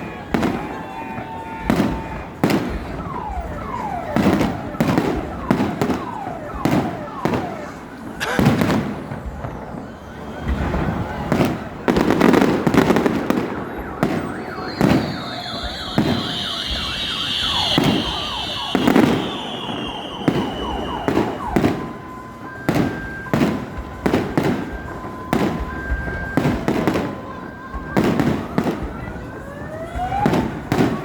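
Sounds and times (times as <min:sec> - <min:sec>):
firework whistle: 0:00.0 - 0:29.2
car alarm two-tone: 0:00.0 - 0:31.0
fireworks booming and crackling: 0:00.0 - 0:31.0.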